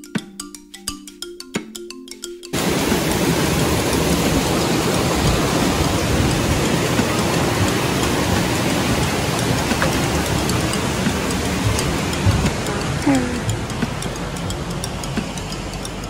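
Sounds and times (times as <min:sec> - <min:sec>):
rushing water: 0:02.5 - 0:16.0.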